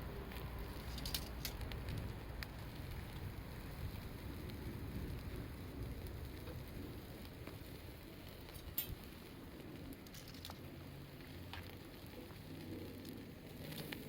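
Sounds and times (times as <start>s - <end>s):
low steady rush: 0.0s - 14.0s
wood fire crackling: 0.0s - 14.0s.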